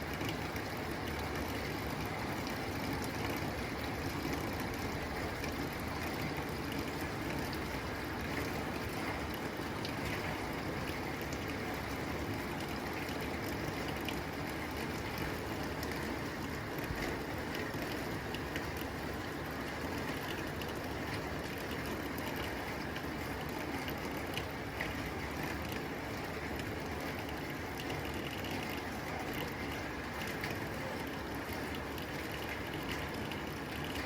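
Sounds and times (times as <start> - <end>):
rain on a tin roof: 0.0 - 34.0.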